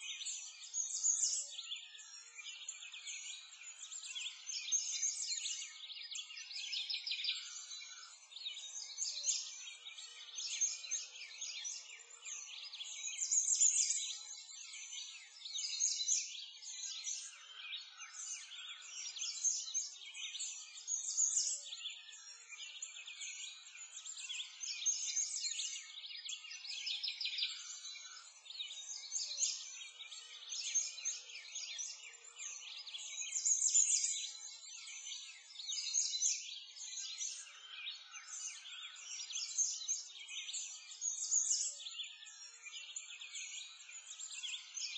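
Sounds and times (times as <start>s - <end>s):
small birds chirping and trilling: 0.0s - 44.9s.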